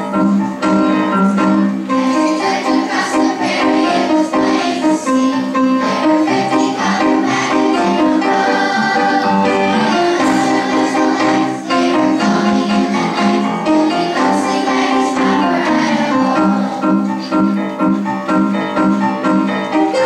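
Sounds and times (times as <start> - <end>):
instrumental accompaniment: 0.0 - 20.0
children singing together: 0.8 - 17.3.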